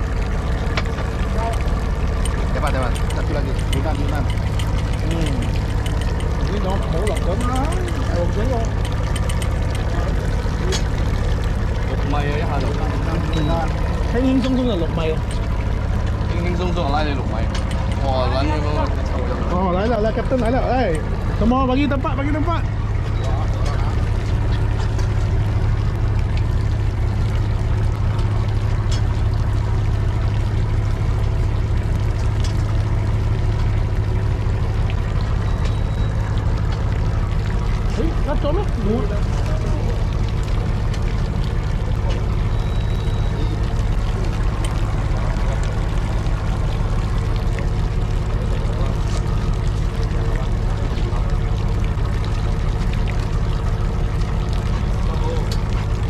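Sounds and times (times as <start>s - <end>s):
boat engine running: 0.0s - 56.0s
water rushing: 0.0s - 56.0s.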